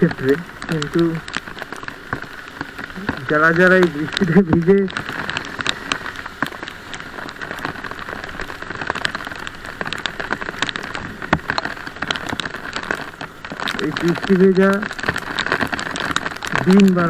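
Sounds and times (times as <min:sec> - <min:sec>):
heavy rain falling: 0:00.0 - 0:17.0
raindrops ticking close: 0:00.0 - 0:17.0.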